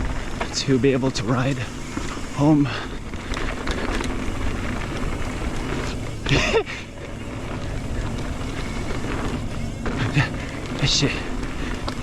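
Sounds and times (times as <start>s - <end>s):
bike clicking and rattling: 0.0s - 12.0s
bike tyres rolling on dirt: 0.0s - 12.0s.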